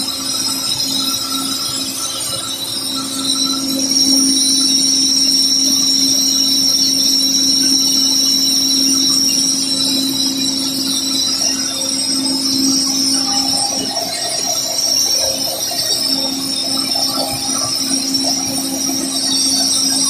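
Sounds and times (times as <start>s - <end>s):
drill rig machine drone: 0.0s - 20.0s
high-pitched machine whine: 0.0s - 20.0s.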